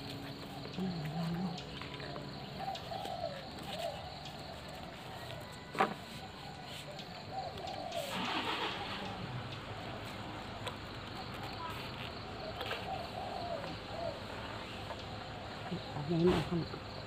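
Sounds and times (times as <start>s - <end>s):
birds cooing: 0.0s - 17.0s.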